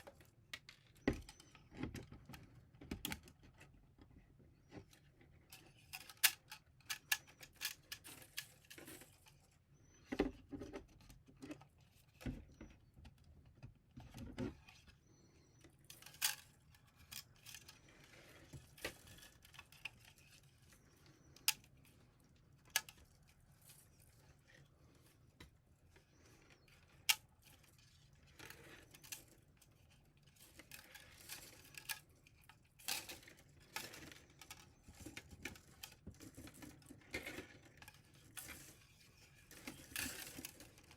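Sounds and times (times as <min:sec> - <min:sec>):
plastic filament clicks and rustles: 0:00.0 - 0:40.9.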